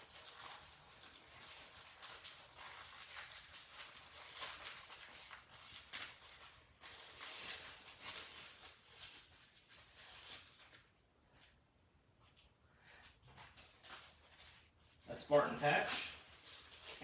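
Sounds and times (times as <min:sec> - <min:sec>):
plastic packaging crinkling: 0:00.0 - 0:11.5, 0:12.3 - 0:17.0.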